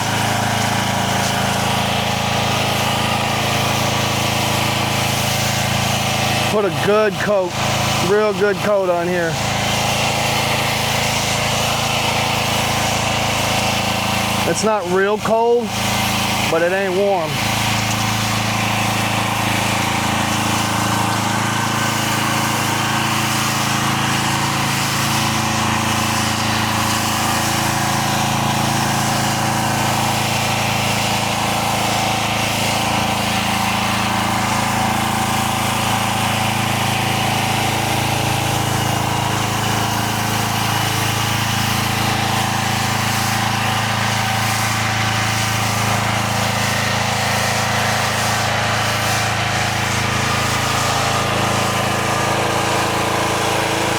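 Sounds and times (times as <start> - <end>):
gas engine running: 0.0 - 53.9.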